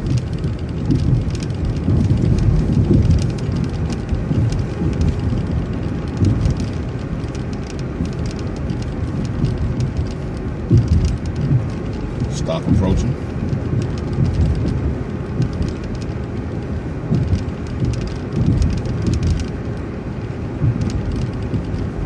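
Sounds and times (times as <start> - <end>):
bus driving low rumble: 0.0 - 22.0
light rattles and ticks: 0.0 - 22.0.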